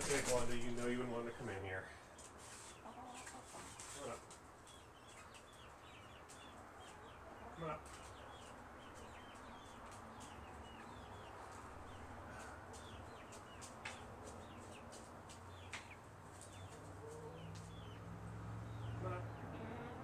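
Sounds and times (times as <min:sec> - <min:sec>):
bird chirping: 0:00.4 - 0:20.0.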